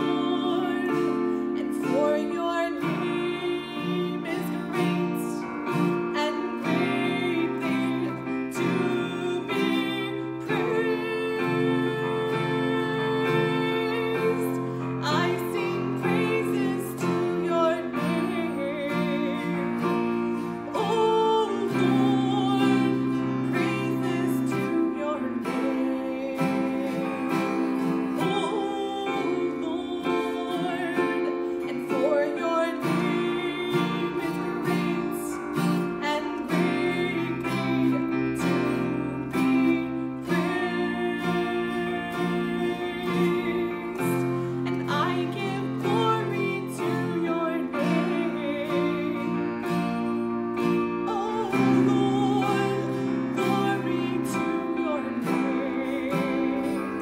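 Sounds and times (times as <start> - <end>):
acoustic guitar: 0.0 - 57.0
woman singing worship song: 0.0 - 57.0.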